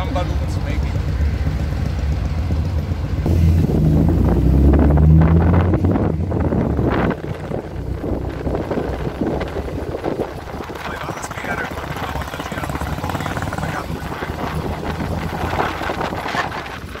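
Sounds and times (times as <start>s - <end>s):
car engine pulling: 0.0s - 17.0s
wind on microphone: 3.3s - 17.0s.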